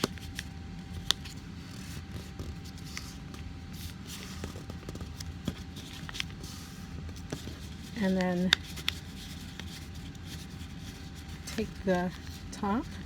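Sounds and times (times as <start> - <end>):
paper rustling and scraping: 0.0 - 13.0
sharp paper crackle: 0.0 - 13.0
steady low hum: 0.0 - 13.0.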